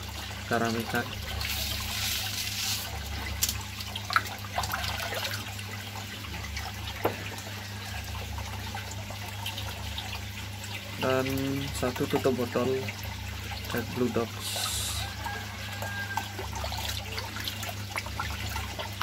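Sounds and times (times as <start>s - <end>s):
water splashing and bubbling: 0.0s - 19.0s.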